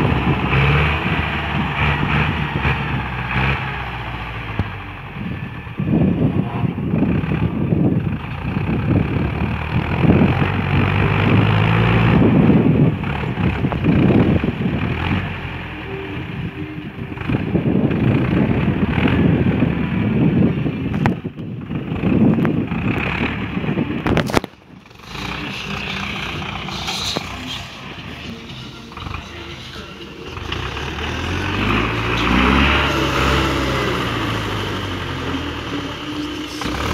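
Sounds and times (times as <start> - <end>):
diesel tractor engine under load: 0.0 - 36.9
wind rumbling on microphone: 0.0 - 36.9.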